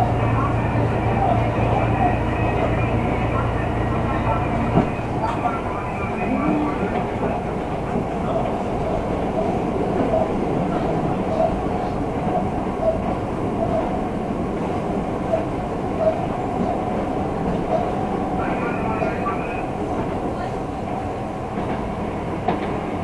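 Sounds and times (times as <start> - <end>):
railcar engine and wheels rumbling: 0.0 - 23.0.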